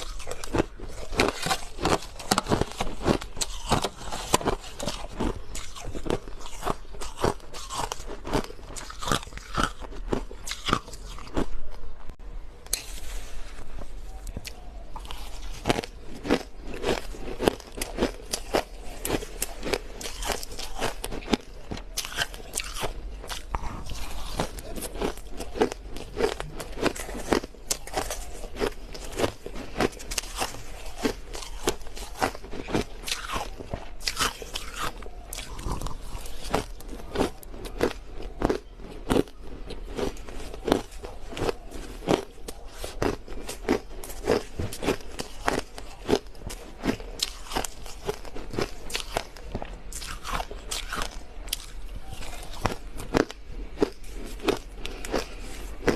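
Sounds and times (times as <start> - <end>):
ice crunching between teeth: 0.0 - 11.8, 14.3 - 55.9.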